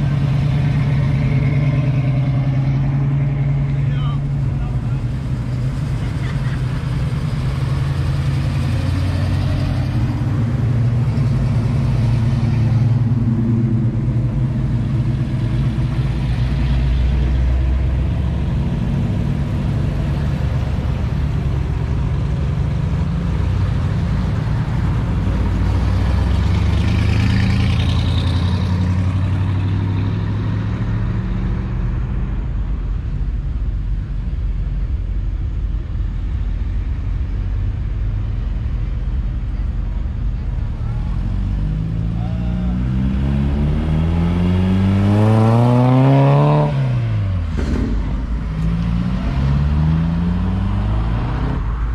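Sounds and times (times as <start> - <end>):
cars driving slowly past: 0.0 - 51.9.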